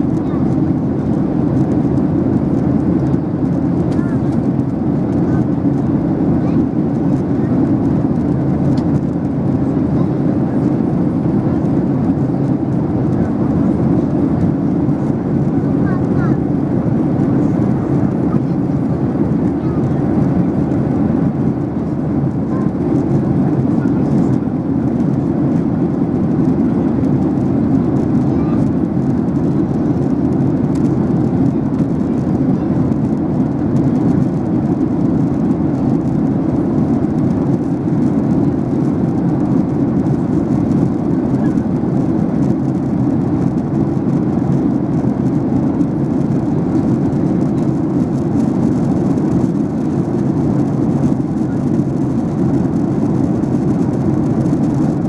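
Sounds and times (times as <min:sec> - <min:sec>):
air rushing along fuselage: 0:00.0 - 0:55.0
jet engine drone: 0:00.0 - 0:55.0.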